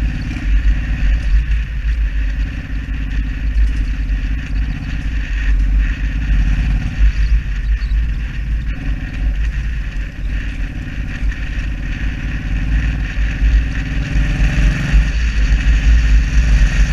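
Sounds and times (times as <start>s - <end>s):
motorcycle engine running: 0.0s - 16.9s
wind rumble on microphone: 0.0s - 16.9s.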